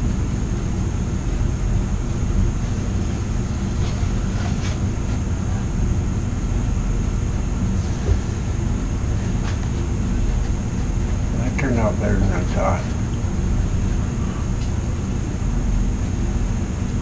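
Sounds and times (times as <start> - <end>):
low mechanical drone: 0.0 - 17.0
thin high whine: 0.0 - 17.0.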